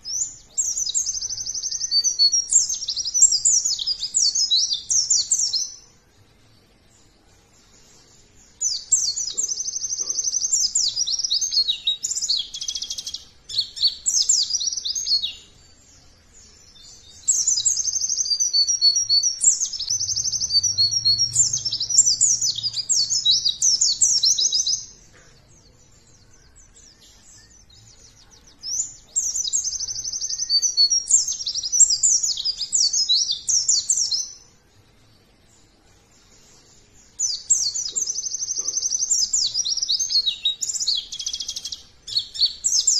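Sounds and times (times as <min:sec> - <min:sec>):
bird twittering song: 0:00.0 - 0:42.9.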